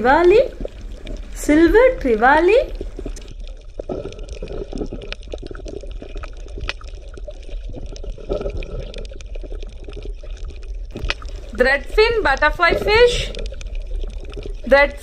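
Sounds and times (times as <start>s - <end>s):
water bubbling underwater: 0.0s - 15.0s
small clicks and pops: 2.7s - 14.8s.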